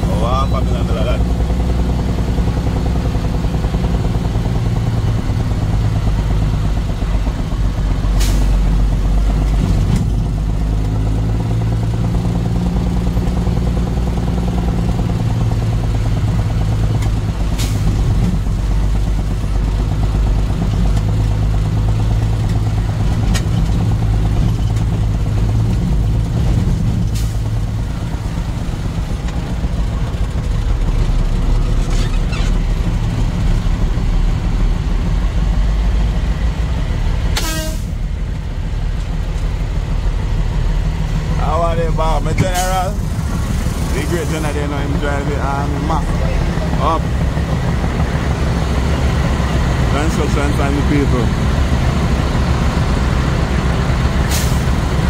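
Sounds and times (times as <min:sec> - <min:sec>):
heavy truck engine droning: 0:00.0 - 0:55.0.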